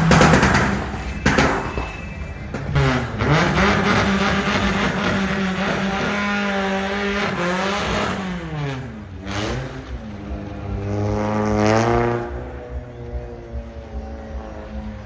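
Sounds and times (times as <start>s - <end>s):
sports car engine revving: 0.0s - 15.0s.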